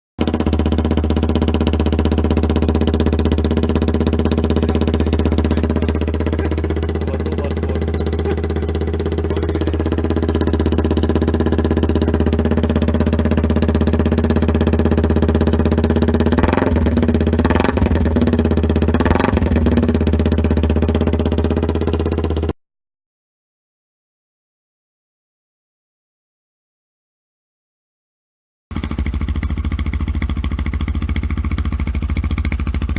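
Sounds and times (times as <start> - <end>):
motorcycle engine idling: 0.2 - 22.6, 28.7 - 32.9.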